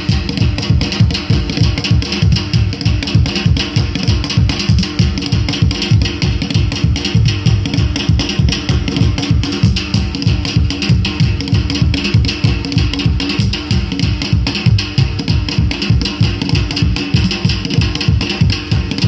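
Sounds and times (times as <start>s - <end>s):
fast drum beat: 0.0s - 19.0s.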